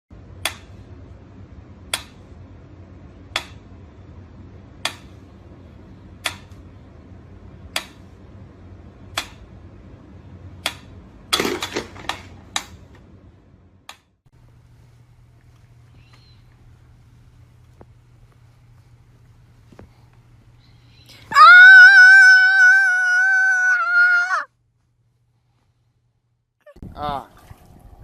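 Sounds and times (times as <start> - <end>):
steady low hum: 0.1 - 28.0.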